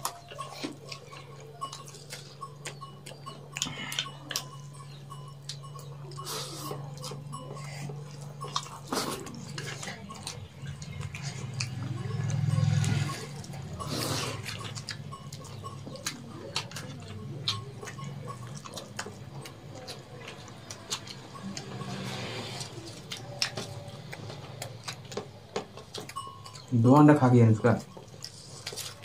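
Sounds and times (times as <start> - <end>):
wet chewing: 0.0 - 29.0.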